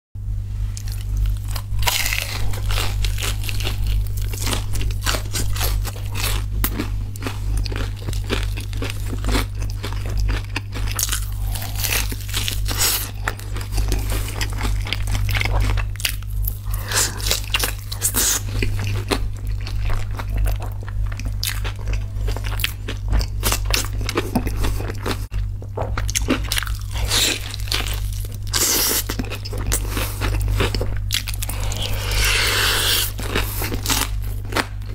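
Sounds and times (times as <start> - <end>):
steady low hum: 0.2 - 34.9
crunching bites and chewing: 0.7 - 34.9.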